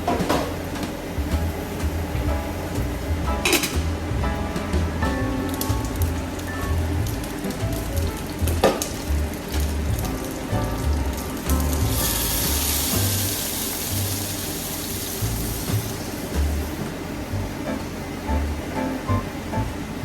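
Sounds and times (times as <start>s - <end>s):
background music with bass beat: 0.0s - 14.5s, 15.2s - 19.8s
loud hiss of kitchen noise: 0.0s - 20.0s.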